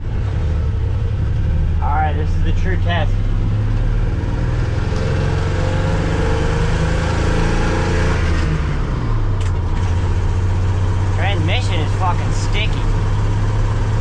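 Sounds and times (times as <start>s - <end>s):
truck engine driving off: 0.0s - 14.0s.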